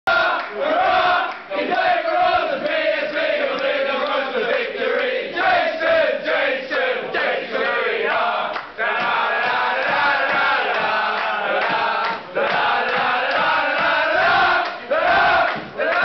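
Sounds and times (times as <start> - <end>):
football crowd chanting: 0.1 - 16.0.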